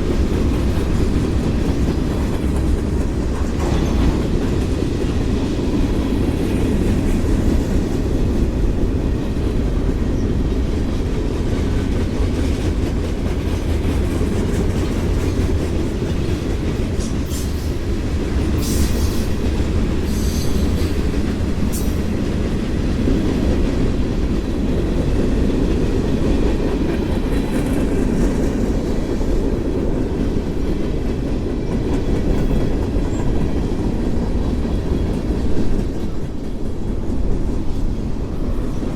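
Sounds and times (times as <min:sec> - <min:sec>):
wheels clacking over rail joints: 0:00.0 - 0:38.8
freight train rumbling past: 0:00.0 - 0:38.9.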